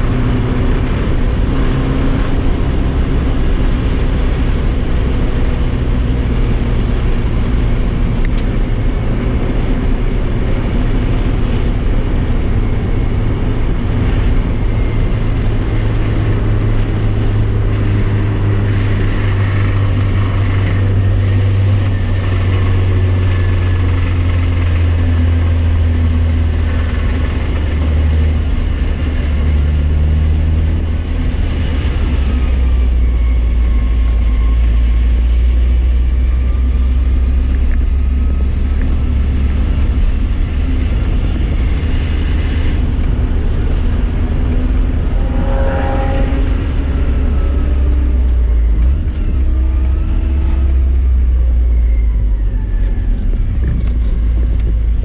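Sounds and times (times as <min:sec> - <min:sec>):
car engine running at speed: 0:00.0 - 0:55.0.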